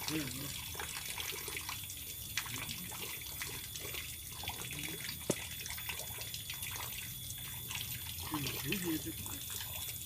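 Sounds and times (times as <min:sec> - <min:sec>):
water trickling: 0:00.0 - 0:10.0.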